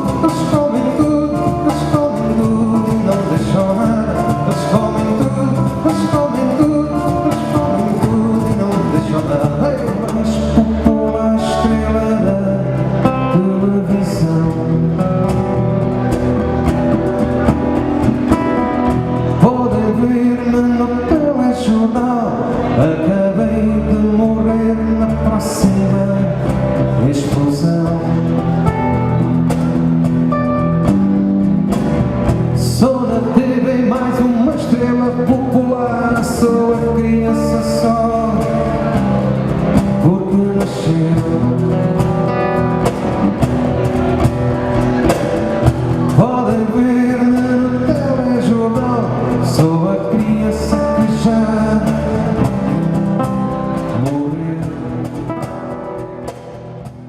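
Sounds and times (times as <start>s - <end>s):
live band music: 0.0s - 57.0s.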